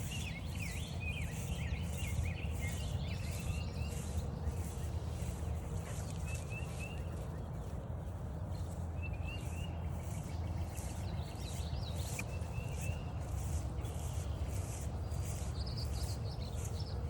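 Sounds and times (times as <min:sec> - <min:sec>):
footsteps crunching on a trail: 0:00.0 - 0:17.0
songbird singing rising notes: 0:00.0 - 0:17.0.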